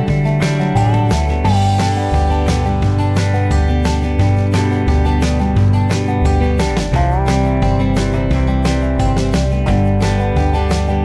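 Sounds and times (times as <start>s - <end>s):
bass line: 0.0s - 11.0s
steady beat: 0.0s - 11.0s
strummed acoustic guitar: 0.0s - 11.0s.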